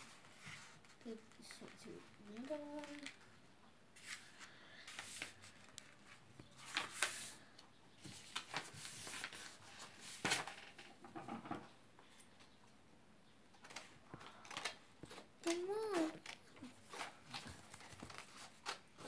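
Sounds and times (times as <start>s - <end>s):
paper rustling and crinkling: 0.0s - 3.4s, 4.0s - 10.9s, 13.6s - 19.0s.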